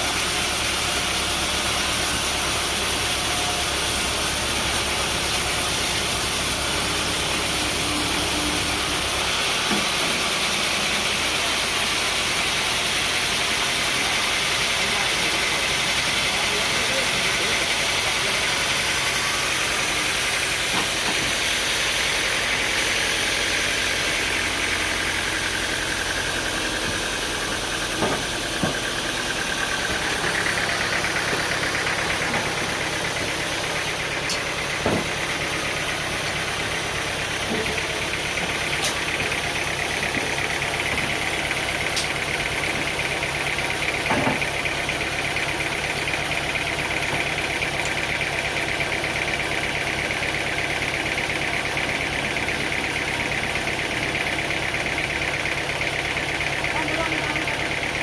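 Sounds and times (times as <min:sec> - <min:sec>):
machinery engine whining: 0:00.0 - 0:58.0.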